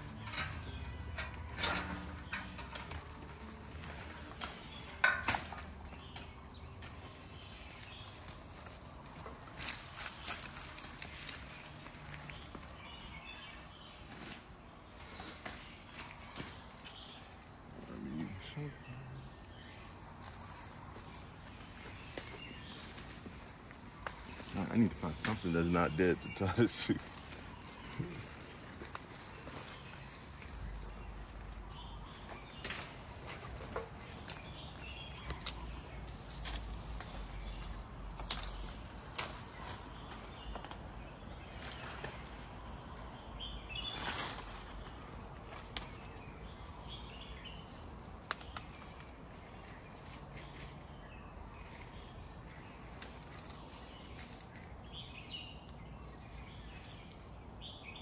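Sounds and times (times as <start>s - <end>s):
insect chirring: 0.0s - 58.0s.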